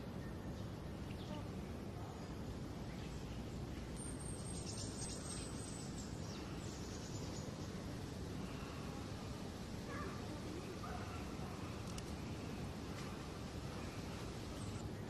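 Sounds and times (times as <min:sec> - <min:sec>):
faint birds chirping: 0:00.0 - 0:15.0
outdoor background noise: 0:00.0 - 0:15.0.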